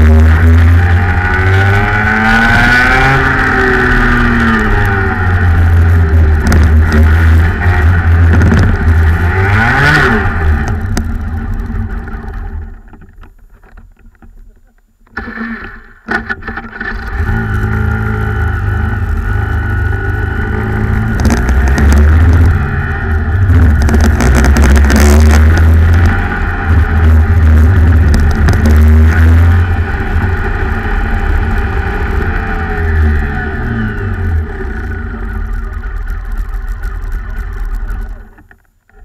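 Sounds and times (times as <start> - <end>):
kart engine revving: 0.0 - 13.0, 15.1 - 38.5.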